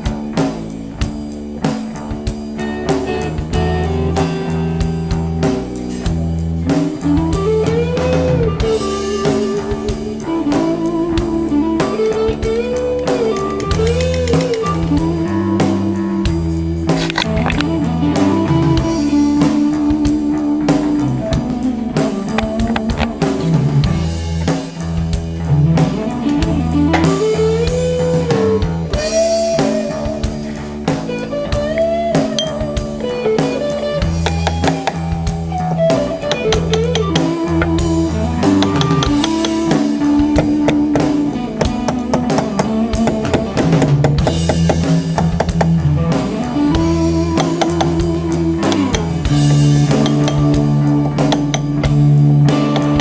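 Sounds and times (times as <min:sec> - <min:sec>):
rock music with guitar and drums: 0:00.0 - 0:53.0.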